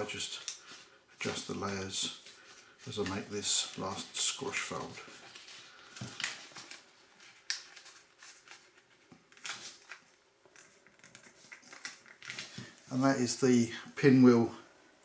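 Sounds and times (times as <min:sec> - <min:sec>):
paper rustling and crinkling: 0:00.0 - 0:12.8.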